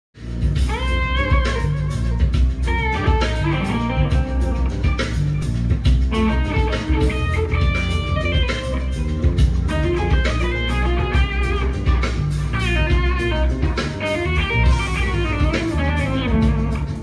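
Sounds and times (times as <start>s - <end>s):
electric guitars jamming: 0.2s - 17.0s.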